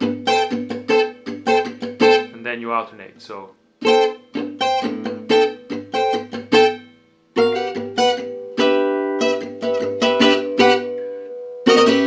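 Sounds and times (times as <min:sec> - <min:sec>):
acoustic guitar jazz rhythm: 0:00.0 - 0:12.0.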